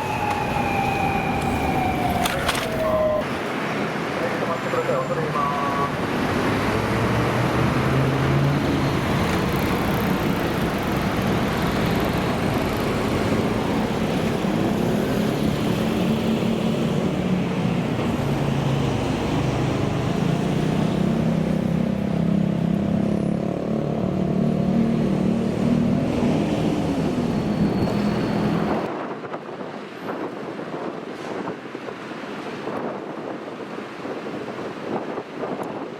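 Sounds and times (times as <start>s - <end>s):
vehicle engines accelerating: 0.0s - 28.9s
road noise: 0.0s - 35.9s.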